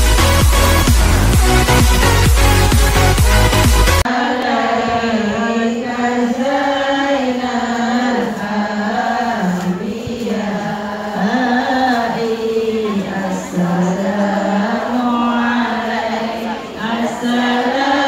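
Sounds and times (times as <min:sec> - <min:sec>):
women chanting: 0:00.0 - 0:18.0.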